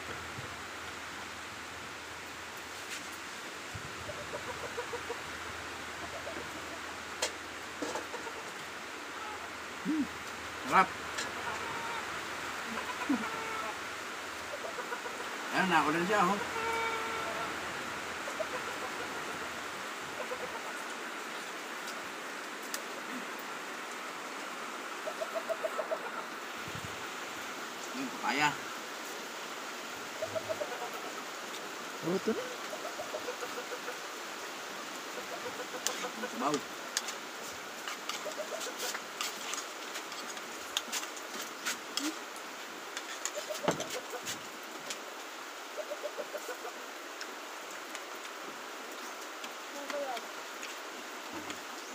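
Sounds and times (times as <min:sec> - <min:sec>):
rain hiss: 0:00.0 - 0:51.9.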